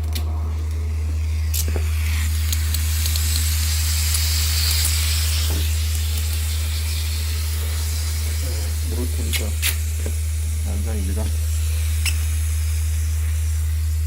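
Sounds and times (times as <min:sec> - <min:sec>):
constant low hum: 0:00.0 - 0:14.0
hot water hissing from pipe leak: 0:00.0 - 0:14.0.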